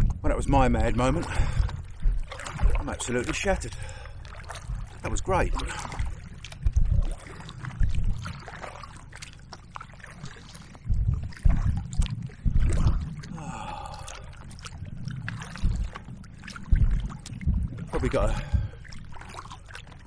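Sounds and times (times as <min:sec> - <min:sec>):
water lapping around a kayak: 0:00.0 - 0:20.0
wind rumbling on microphone: 0:00.0 - 0:20.0.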